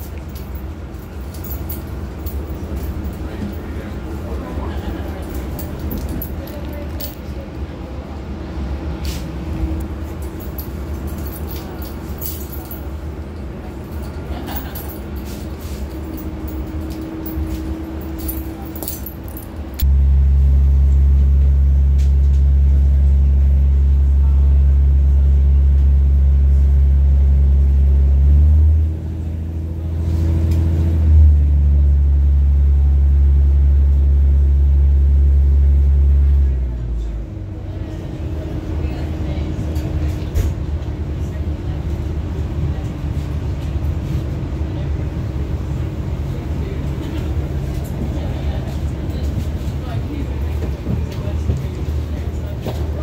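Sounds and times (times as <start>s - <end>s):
loud low train drone: 0.0s - 53.0s
train running rumble: 0.0s - 53.0s.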